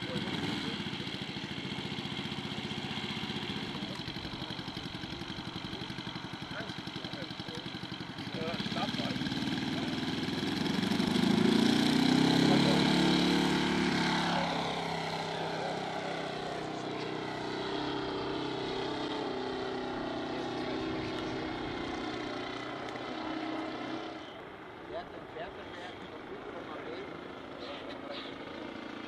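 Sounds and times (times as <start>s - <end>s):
model airplane engine: 0.0s - 29.0s.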